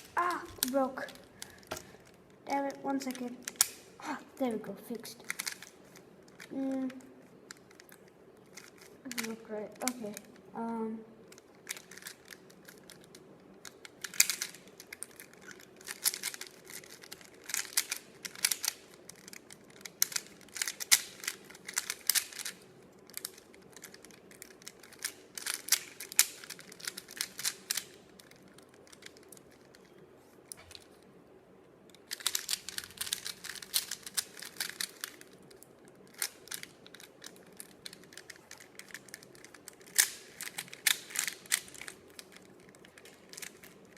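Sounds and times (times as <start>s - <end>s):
puzzle cube plastic clicking: 0.0s - 3.9s, 5.1s - 10.4s, 11.3s - 31.0s, 31.9s - 43.9s.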